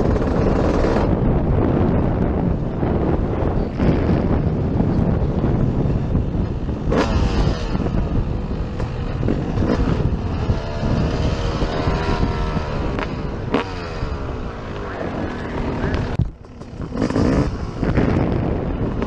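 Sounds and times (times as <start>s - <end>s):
dirt bike engines revving: 0.0s - 19.0s
wind buffeting microphone: 0.0s - 19.0s.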